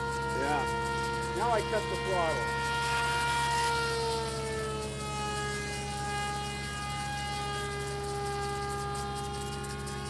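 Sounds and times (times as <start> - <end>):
electric motor and propeller whine: 0.0 - 10.0.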